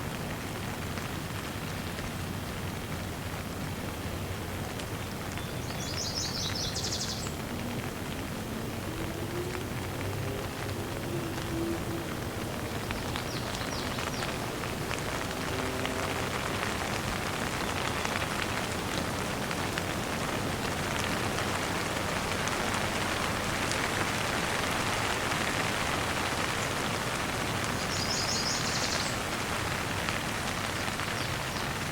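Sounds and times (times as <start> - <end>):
light rain falling: 0.0 - 31.9
raindrops ticking on surfaces: 0.0 - 31.9.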